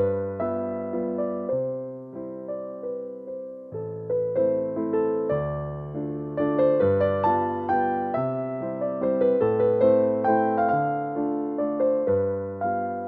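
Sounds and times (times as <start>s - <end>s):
gentle keyboard melody: 0.0s - 13.0s.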